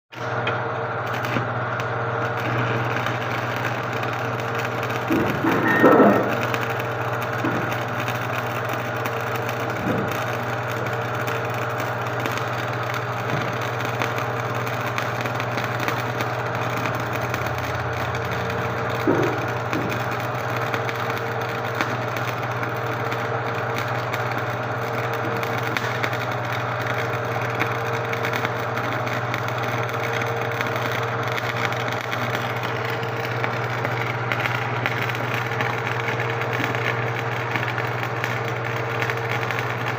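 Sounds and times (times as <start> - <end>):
welding arc crackling: 0.1 - 39.9.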